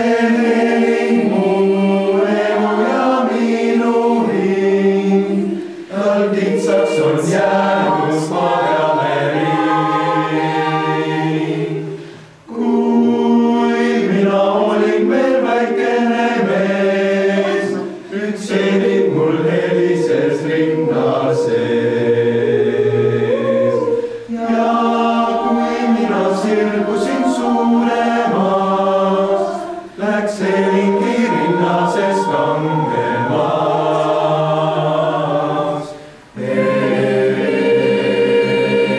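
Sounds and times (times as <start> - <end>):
youth choir singing a cappella: 0.0 - 38.9.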